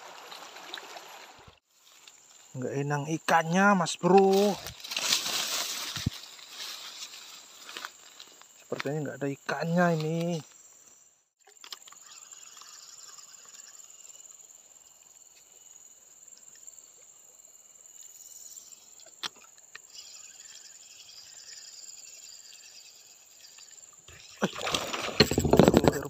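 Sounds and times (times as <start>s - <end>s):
insects chirring: 0.3s - 26.0s.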